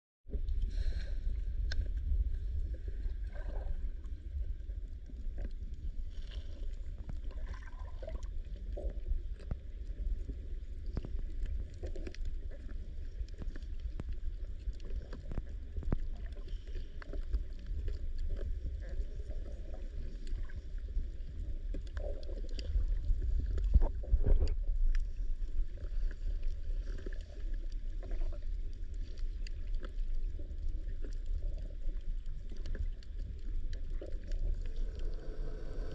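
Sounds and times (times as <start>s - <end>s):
low rumble of moving water: 0.3s - 35.9s
underwater clicks and crackles: 0.3s - 35.9s.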